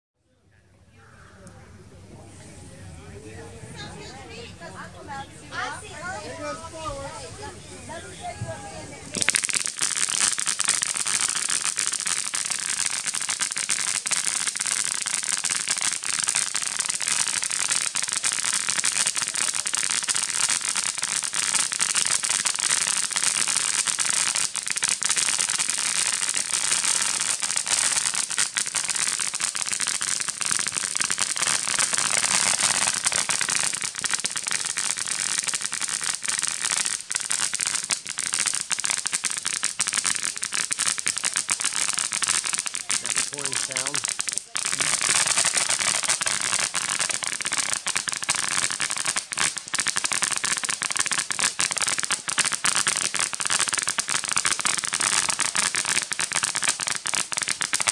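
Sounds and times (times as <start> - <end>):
firework fountain hissing and crackling: 1.4 - 57.9.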